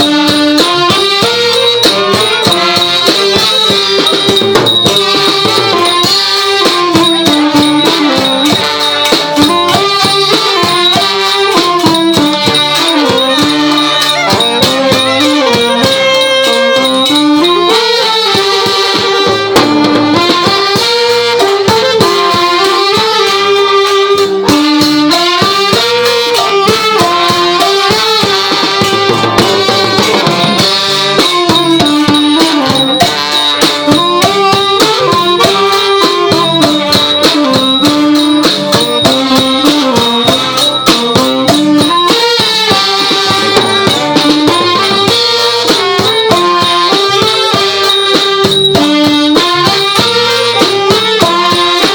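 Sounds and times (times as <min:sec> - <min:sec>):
drums: 0:00.0 - 0:51.9
reedy wind melody: 0:00.0 - 0:51.9
small cymbals: 0:00.0 - 0:51.9.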